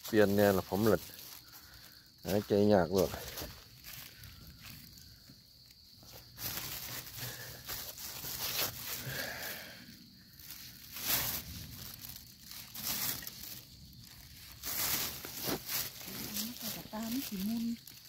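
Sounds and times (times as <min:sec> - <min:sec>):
dry leaves rustling and crackling: 0:00.0 - 0:05.2, 0:06.0 - 0:09.7, 0:10.3 - 0:18.0.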